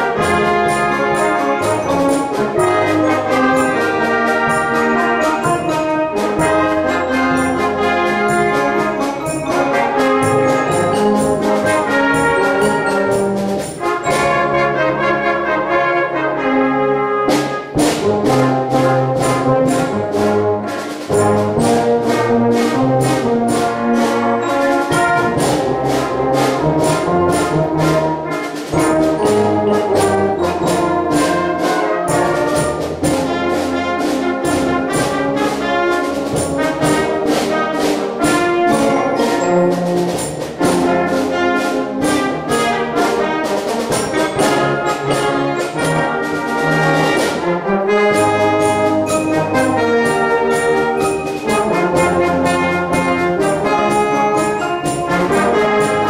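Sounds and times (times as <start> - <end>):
percussion beat: 0.0 - 15.0, 17.4 - 56.0
brass band playing: 0.0 - 56.0.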